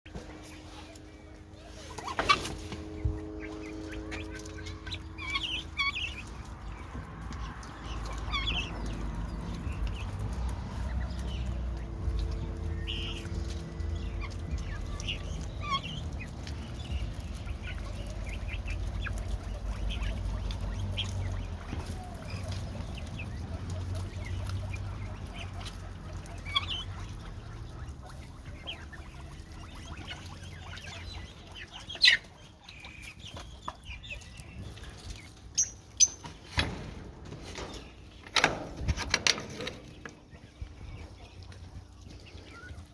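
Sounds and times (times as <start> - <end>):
chicken clucking: 0.1 - 42.9
steady low rumble: 2.6 - 31.8, 36.6 - 42.9.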